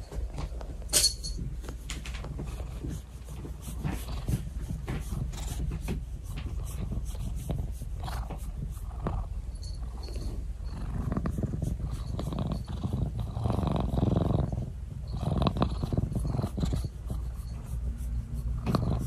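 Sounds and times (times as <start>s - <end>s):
cat purring: 1.6s - 19.0s.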